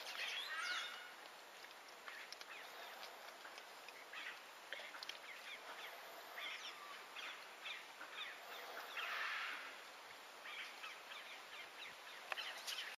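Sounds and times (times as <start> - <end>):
background hiss: 0.0 - 12.9.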